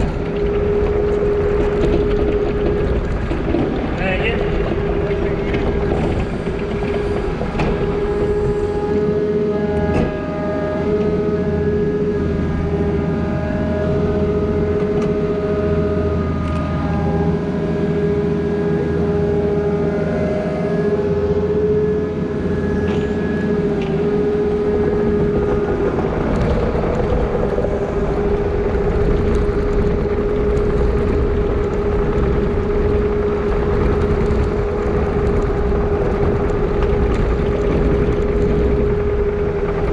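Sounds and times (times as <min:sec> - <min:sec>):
diesel earthmoving machine running: 0:00.0 - 0:39.9.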